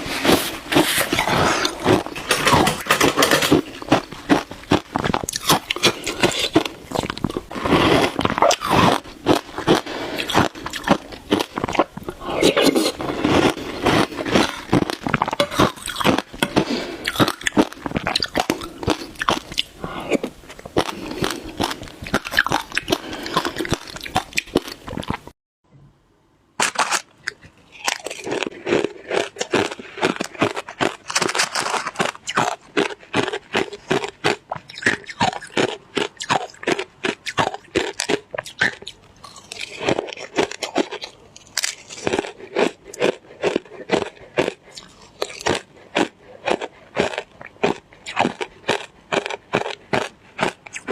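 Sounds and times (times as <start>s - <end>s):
chewing and crunching ice: 0.0s - 25.3s, 26.9s - 50.9s.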